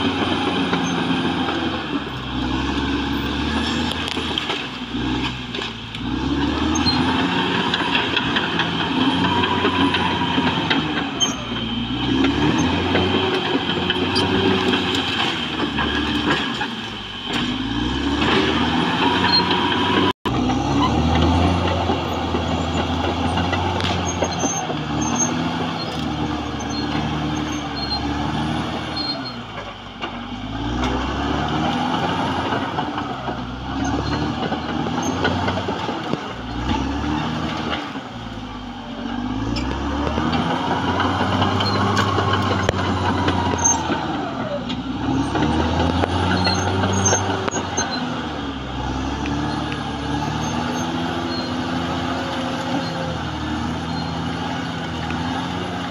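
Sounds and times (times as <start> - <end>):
bulldozer diesel engine under load: 0.0 - 55.9.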